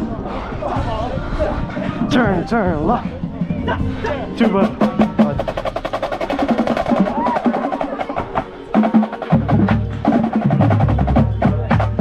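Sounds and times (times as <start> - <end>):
rapid drum percussion: 2.3 - 12.0.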